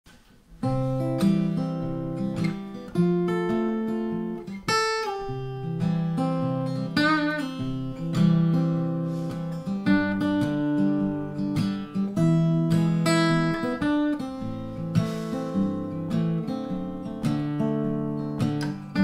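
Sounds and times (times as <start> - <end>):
acoustic guitar fingerpicked: 0.1 - 19.0.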